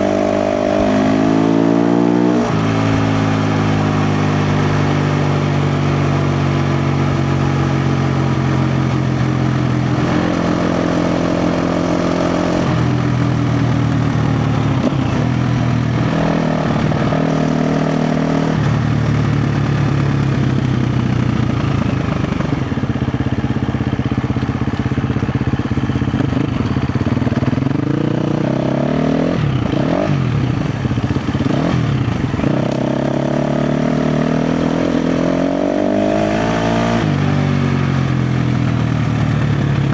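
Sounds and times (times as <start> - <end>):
dirt bike engine revving: 0.0 - 22.9, 27.4 - 38.0.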